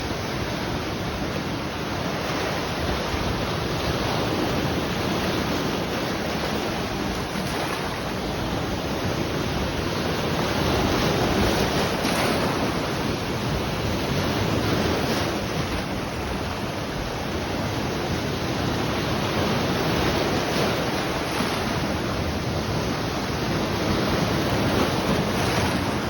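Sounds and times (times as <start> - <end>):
sea waves washing onto shore: 0.0 - 26.0.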